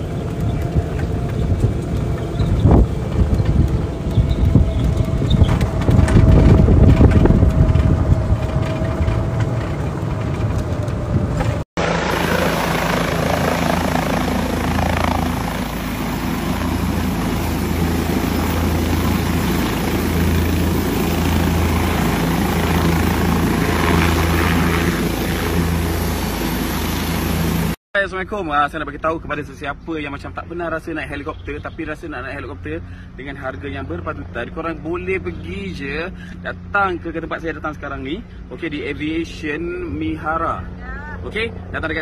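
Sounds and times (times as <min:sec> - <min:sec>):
helicopter rotor drone: 0:00.0 - 0:27.8, 0:30.2 - 0:42.0
wind and vehicle rumble: 0:00.0 - 0:42.0.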